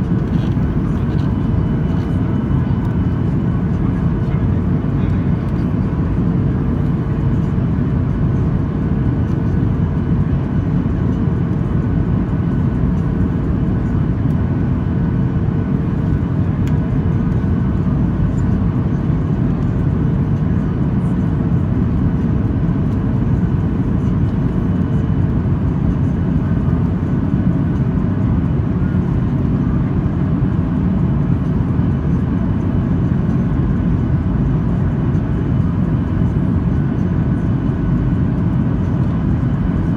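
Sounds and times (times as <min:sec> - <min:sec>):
jet engine cabin rumble: 0:00.0 - 0:39.9
steady hum: 0:00.0 - 0:39.9.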